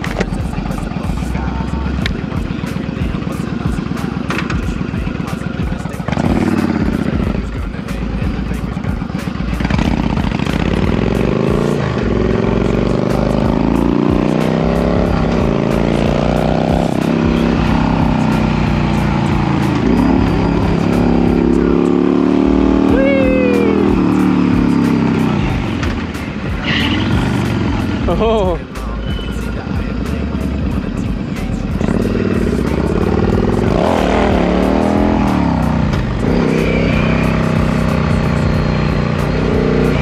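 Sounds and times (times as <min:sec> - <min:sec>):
motorcycle engine idling and accelerating: 0:00.0 - 0:40.0.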